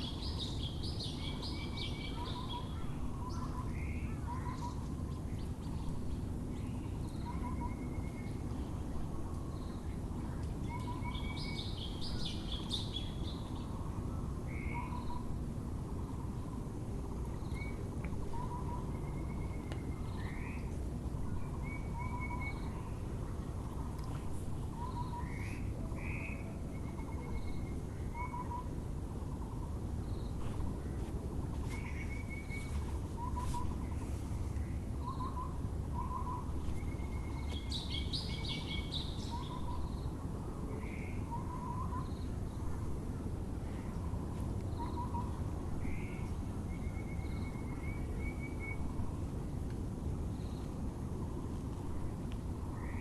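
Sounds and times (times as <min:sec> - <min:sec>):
small birds trilling: 0:00.0 - 0:09.9, 0:10.6 - 0:42.8, 0:43.6 - 0:49.1
low background hum: 0:00.0 - 0:53.0.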